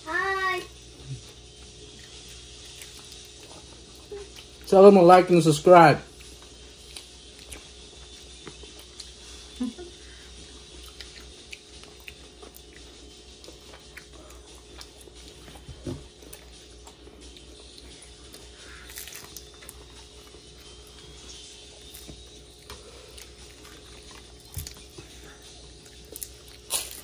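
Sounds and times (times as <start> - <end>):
steady low hum: 0.0 - 27.0
faint chewing: 1.0 - 4.7, 6.1 - 27.0.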